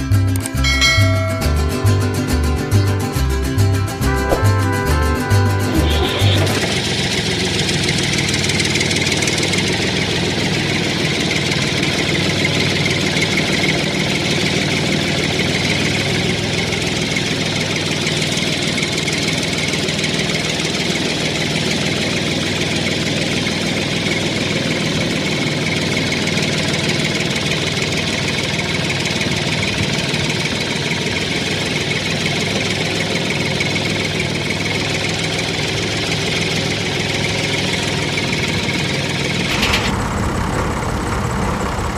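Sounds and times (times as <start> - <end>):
tractor engine idling: 0.0 - 41.9.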